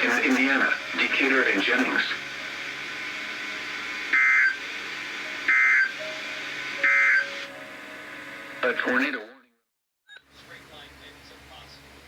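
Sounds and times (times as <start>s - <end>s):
radio hiss: 0.0s - 9.3s, 10.2s - 12.0s.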